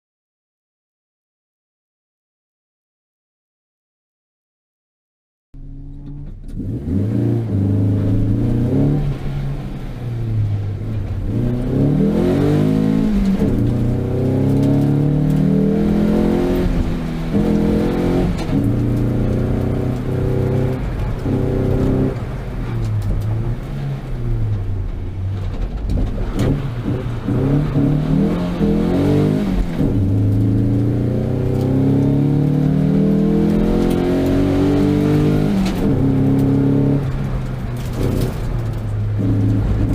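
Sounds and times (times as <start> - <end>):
car engine revving: 5.6 - 39.9.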